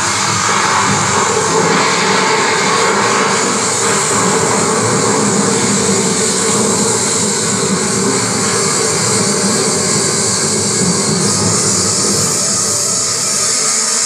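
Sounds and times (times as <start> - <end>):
loud steady rushing noise: 0.0 - 14.0.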